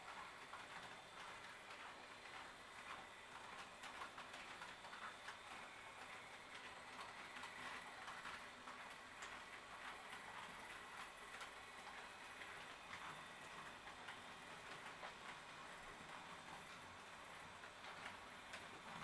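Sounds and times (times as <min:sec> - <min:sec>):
model train wheels clicking: 0:00.0 - 0:19.0.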